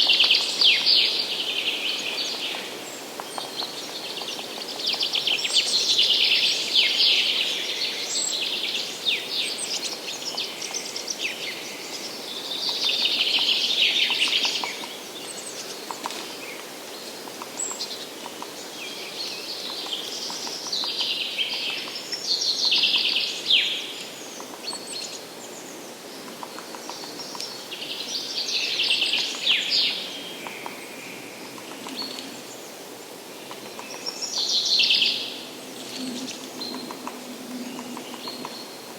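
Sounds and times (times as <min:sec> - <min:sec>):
faint steady hiss: 0:00.0 - 0:38.9
songbirds singing: 0:00.0 - 0:38.9.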